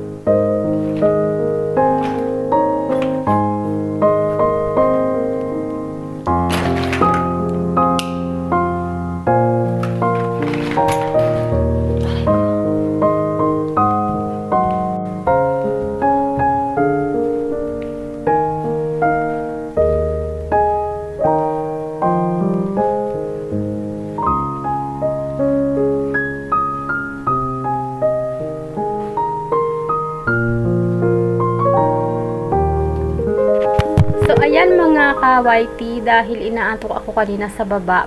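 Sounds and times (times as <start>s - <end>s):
slow piano melody: 0.0s - 38.0s.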